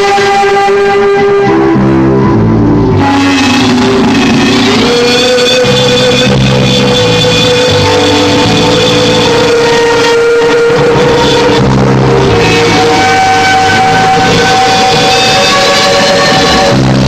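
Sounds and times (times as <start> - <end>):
bass line: 0.0 - 17.0
guitar holding long note: 0.0 - 17.0.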